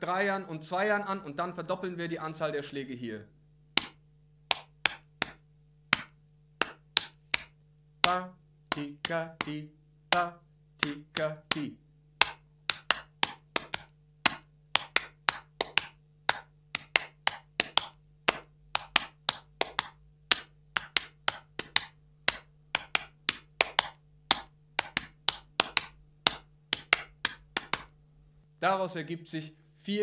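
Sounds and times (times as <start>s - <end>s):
sharp hand claps: 3.8s - 27.9s.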